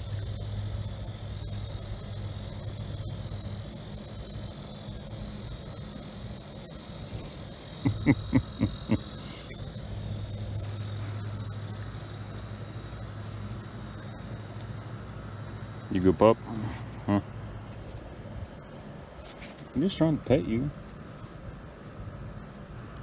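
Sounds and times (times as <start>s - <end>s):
insects: 0.0s - 23.0s
low steady hum: 0.0s - 23.0s.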